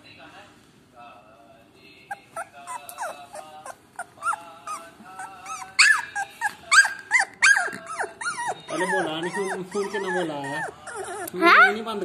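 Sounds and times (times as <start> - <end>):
puppy yipping and whining: 2.1 - 11.9.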